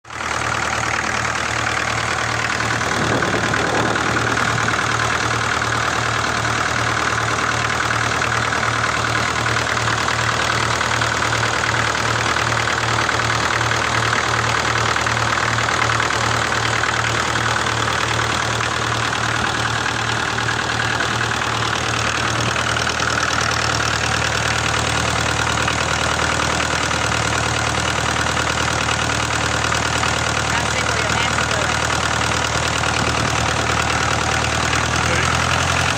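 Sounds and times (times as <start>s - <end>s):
tractor engine idling: 0.0s - 35.9s.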